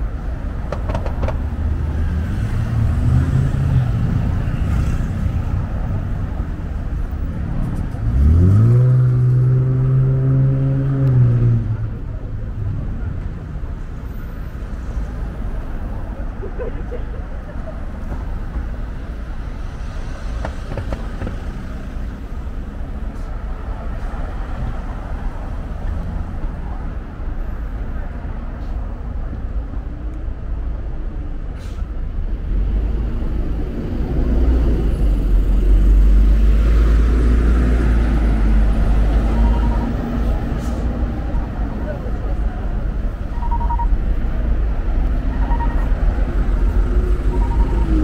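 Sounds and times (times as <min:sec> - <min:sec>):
heavy vehicle engine rumble: 0:00.0 - 0:48.0
hum of passing cars: 0:00.0 - 0:48.0.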